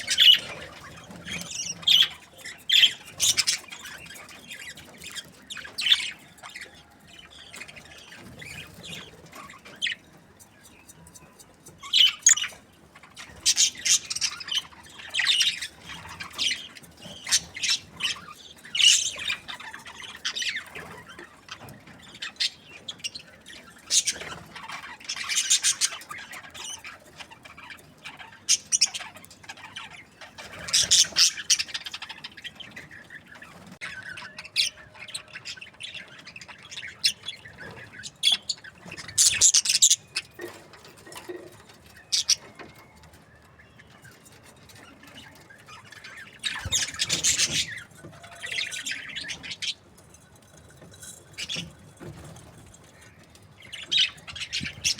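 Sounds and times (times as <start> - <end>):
budgerigars chirping and squawking: 0.0 - 54.9.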